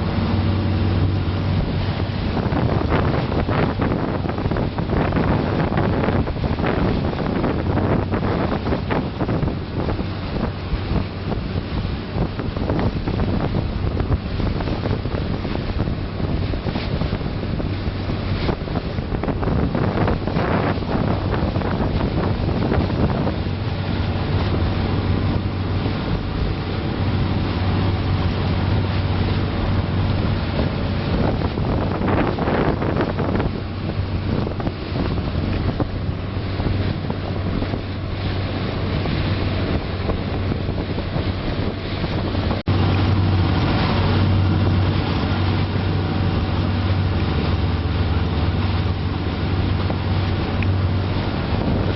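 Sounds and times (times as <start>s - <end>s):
ferry engine droning: 0.0s - 51.9s
water rushing along hull: 0.0s - 51.9s
wind buffeting microphone: 0.0s - 51.9s.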